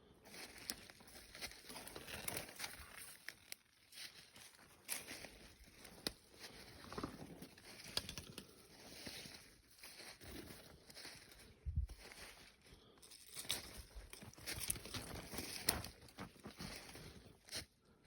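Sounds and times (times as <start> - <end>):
footsteps on dry leaves: 0.3 - 17.8.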